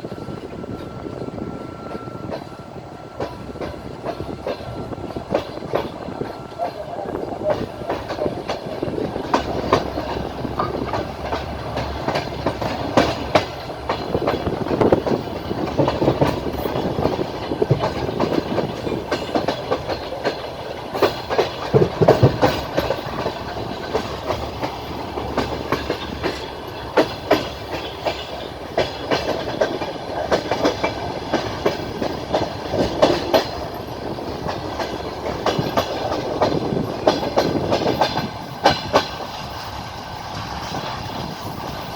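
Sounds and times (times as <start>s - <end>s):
clickety-clack over rail joints: 0.0s - 41.9s
train wheels rumbling on rail: 0.0s - 41.9s.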